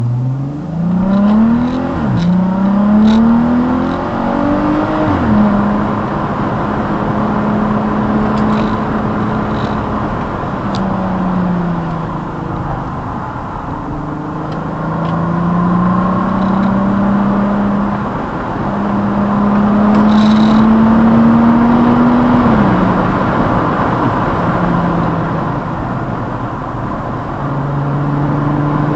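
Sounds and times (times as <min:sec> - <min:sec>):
car engine and exhaust: 0:00.0 - 0:28.9.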